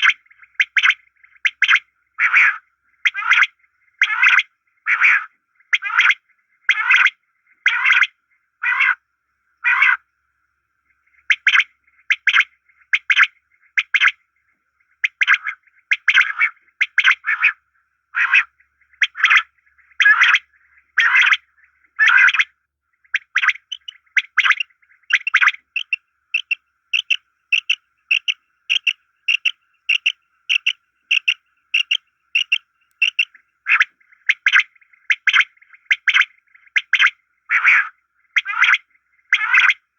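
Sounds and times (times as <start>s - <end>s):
bird calls: 0.0s - 10.1s, 10.8s - 39.9s.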